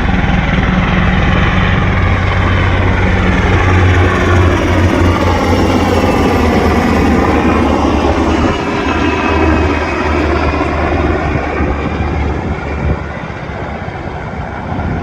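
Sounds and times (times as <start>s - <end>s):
helicopter flying overhead: 0.0s - 15.0s.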